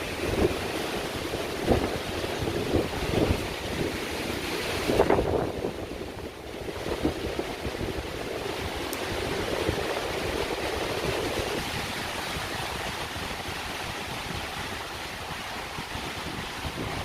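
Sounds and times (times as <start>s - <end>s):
strong wind through woods: 0.0s - 17.0s
wind buffeting microphone: 0.0s - 17.0s.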